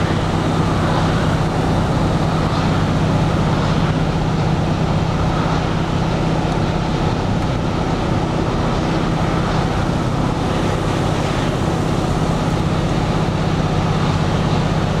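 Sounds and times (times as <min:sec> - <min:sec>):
bus engine hum: 0:00.0 - 0:15.0
road and tyre noise: 0:00.0 - 0:15.0.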